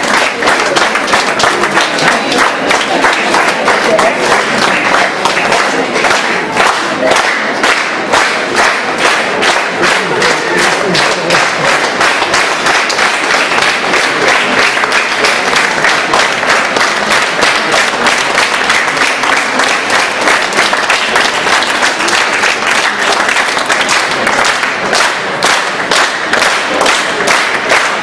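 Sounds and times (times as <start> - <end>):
crowd clapping in rhythm: 0.0 - 28.0.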